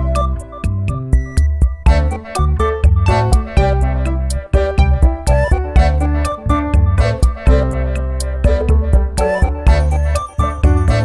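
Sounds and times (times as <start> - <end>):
background music with beat: 0.0 - 11.0.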